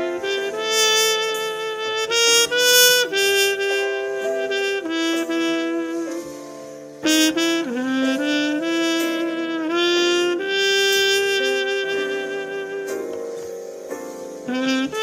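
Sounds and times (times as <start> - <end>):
trumpet playing slow melody: 0.0 - 15.0.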